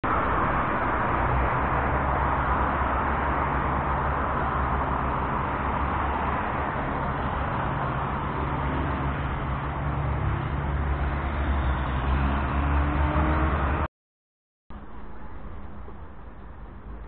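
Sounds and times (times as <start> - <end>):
cars passing: 0.0 - 13.9
low traffic rumble: 0.0 - 13.9, 14.7 - 17.0.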